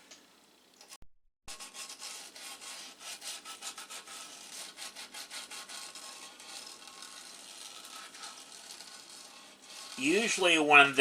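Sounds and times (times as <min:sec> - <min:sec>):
scratchy rubbing on circuit board: 0:01.5 - 0:11.0.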